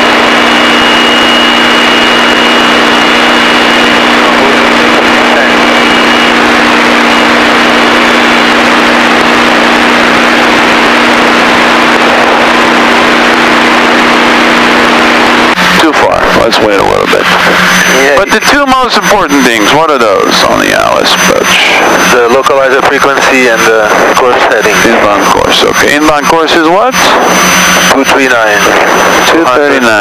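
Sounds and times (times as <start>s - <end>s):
propeller aircraft engines droning: 0.0s - 30.0s.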